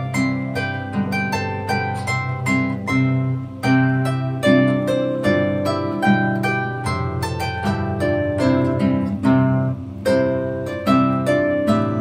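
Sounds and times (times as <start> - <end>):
solo harp playing: 0.0 - 12.0.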